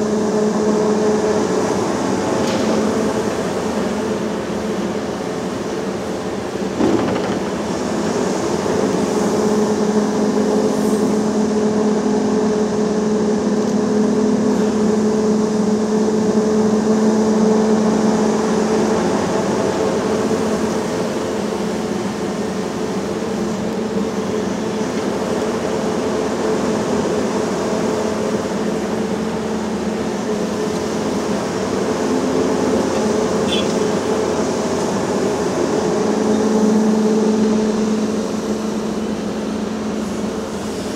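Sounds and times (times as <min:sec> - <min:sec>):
excavator diesel engine running: 0:03.0 - 0:40.9.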